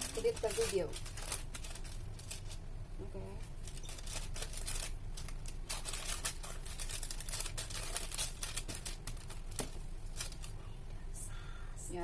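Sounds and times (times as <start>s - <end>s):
baking paper crinkling: 0.0s - 2.7s, 3.4s - 10.6s
low steady hum: 0.0s - 12.0s.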